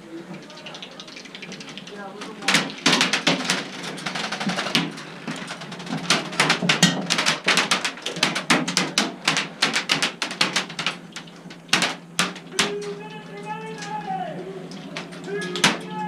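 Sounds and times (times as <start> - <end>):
dense clicking and crackling: 0.0 - 16.0.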